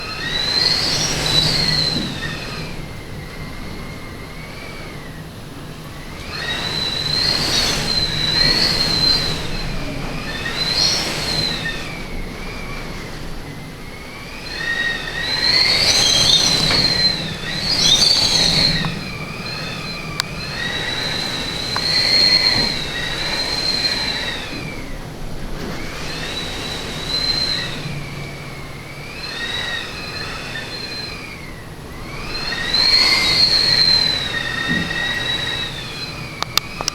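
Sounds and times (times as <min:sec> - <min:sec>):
storm wind howling: 0:00.0 - 0:36.9.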